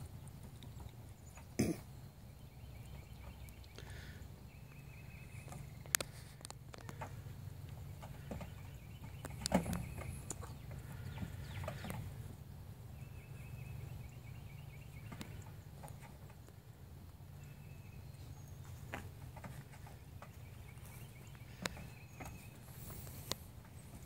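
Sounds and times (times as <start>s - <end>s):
faint bird calls: 0.0s - 24.0s.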